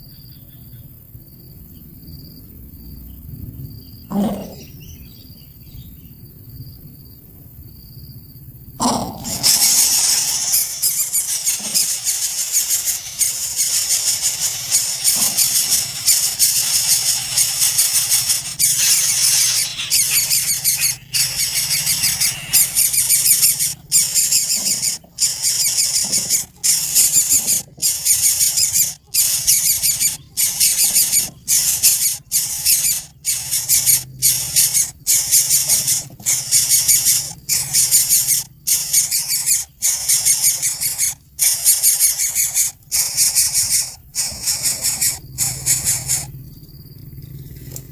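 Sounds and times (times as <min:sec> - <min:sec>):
nestling birds begging calls: 0:04.1 - 0:05.1, 0:08.8 - 0:46.4.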